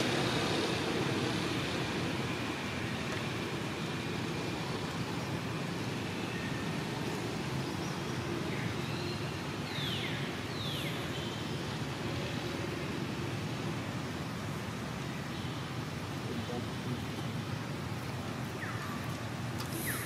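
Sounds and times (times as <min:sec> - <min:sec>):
outdoor hiss and rumble: 0:00.0 - 0:20.0.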